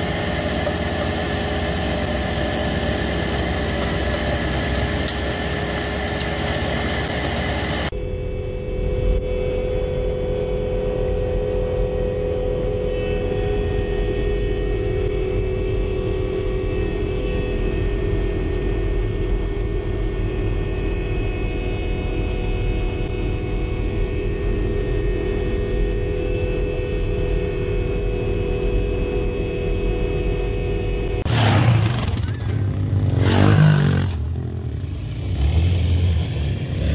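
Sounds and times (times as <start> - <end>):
diesel engine and snow blower drone: 0.0 - 36.9.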